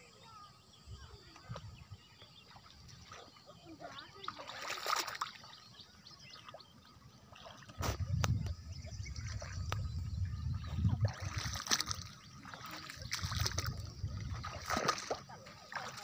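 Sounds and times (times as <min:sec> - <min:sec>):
water sloshing and trickling: 0:01.0 - 0:16.0.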